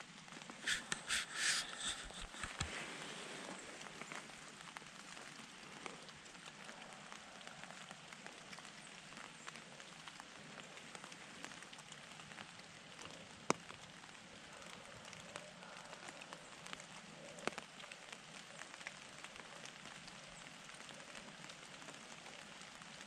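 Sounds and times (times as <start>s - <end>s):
light rain pattering on leaves: 0.0s - 23.0s.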